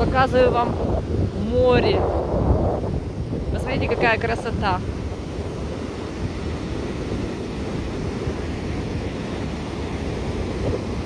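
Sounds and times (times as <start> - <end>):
surf breaking on a beach: 0.0 - 11.0
wind buffeting the microphone: 0.0 - 11.0.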